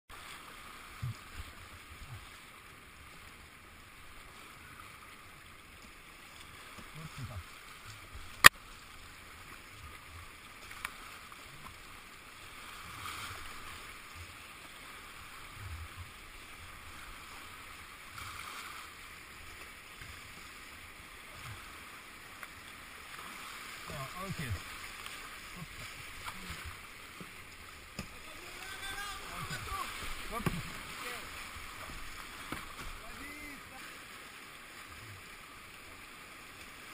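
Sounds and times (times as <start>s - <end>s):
river water rushing: 0.1s - 36.9s.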